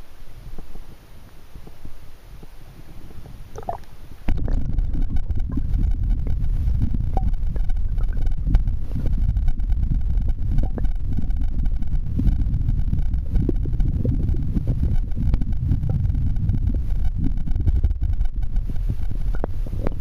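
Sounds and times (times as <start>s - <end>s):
muffled underwater river rumble: 0.0s - 20.0s
small ticks and clicks: 0.5s - 20.0s.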